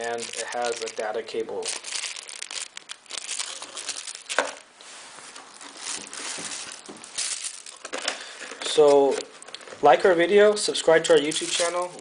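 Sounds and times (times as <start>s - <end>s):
plastic bag crinkling: 0.0s - 4.7s, 5.3s - 12.0s.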